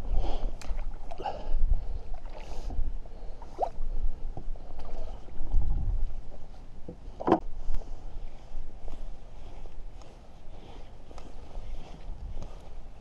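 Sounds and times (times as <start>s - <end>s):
water splashing and sloshing: 0.0s - 12.8s
wind rumbling on microphone: 0.0s - 13.0s.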